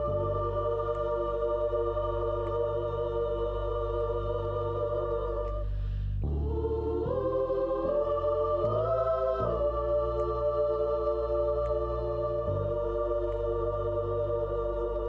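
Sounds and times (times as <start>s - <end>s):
choir singing sustained chords: 0.0s - 15.0s
gospel organ chords: 0.0s - 15.0s
low bass: 0.0s - 15.0s.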